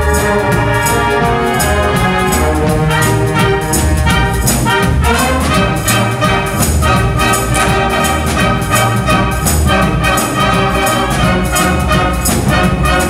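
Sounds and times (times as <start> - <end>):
concert band playing: 0.0 - 13.0
driving drum beat: 0.0 - 13.0.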